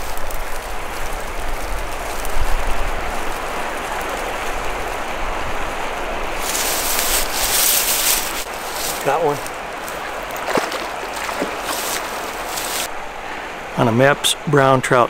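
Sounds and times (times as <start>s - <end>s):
wind rumble on microphone: 0.0s - 12.9s
river water rushing: 0.0s - 13.8s.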